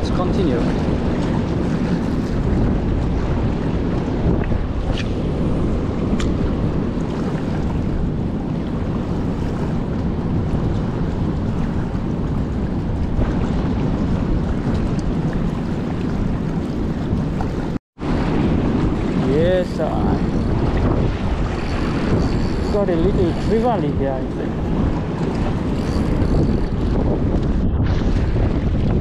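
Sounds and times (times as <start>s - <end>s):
wind on microphone: 0.0s - 29.0s.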